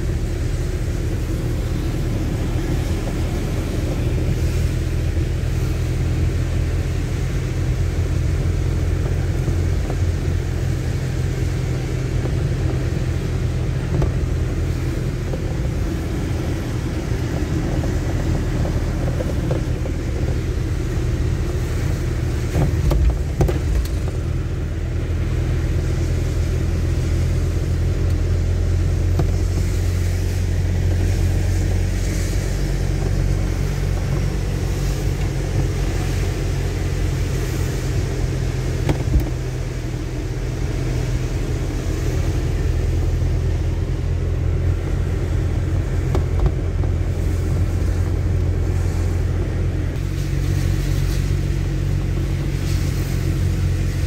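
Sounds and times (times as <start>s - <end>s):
car engine and road rumble: 0.0s - 54.0s
tyres hissing on wet road: 0.0s - 54.0s.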